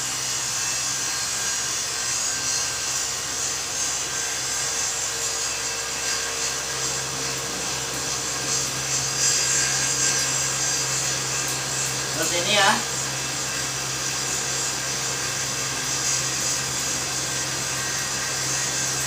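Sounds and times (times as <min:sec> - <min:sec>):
cotton candy machine motor whirring: 0:00.0 - 0:19.0.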